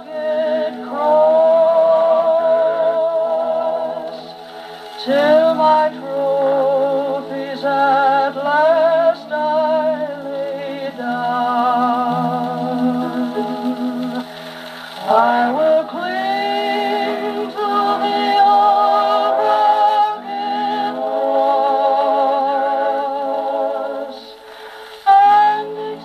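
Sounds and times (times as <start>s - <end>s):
gramophone record of sung hymn: 0.0s - 26.0s.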